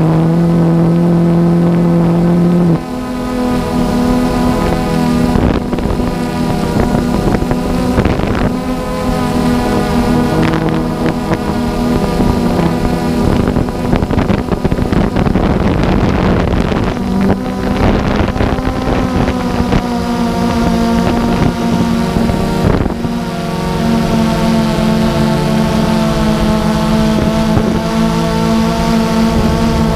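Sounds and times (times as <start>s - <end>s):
drone propellers whining: 0.0s - 29.9s
rushing wind noise: 0.0s - 29.9s.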